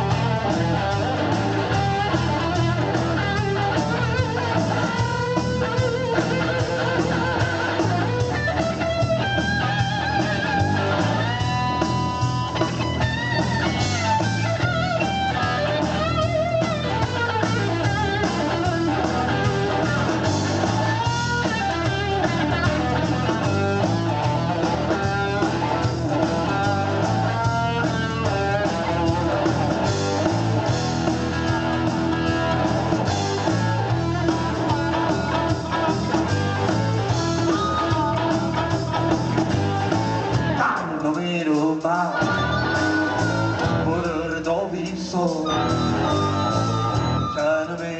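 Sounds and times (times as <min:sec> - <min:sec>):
bass and drum groove: 0:00.0 - 0:47.9
electric guitar lead: 0:00.0 - 0:47.9.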